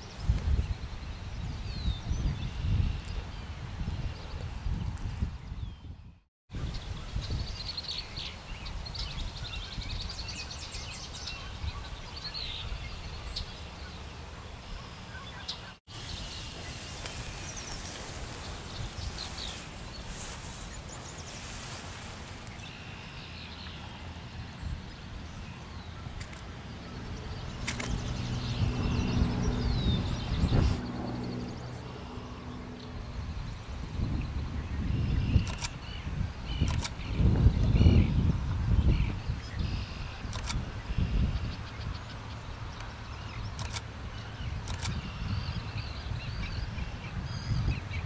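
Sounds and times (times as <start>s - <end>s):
wind rumble on microphone: 0.0s - 13.8s, 15.9s - 22.8s, 23.4s - 48.0s
small birds chirping: 0.0s - 48.0s.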